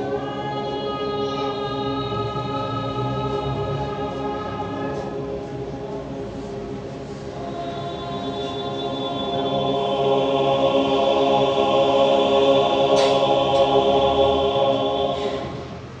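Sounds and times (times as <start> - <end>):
men's choir holding chord: 0.0 - 16.0.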